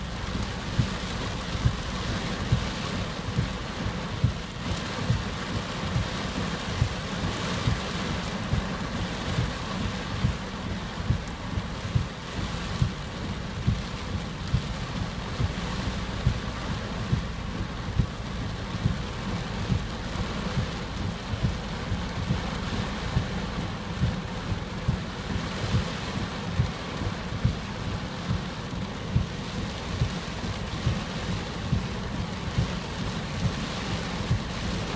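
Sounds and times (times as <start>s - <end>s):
heavy rain rushing: 0.0s - 34.9s
wind thumps on microphone: 0.0s - 34.9s.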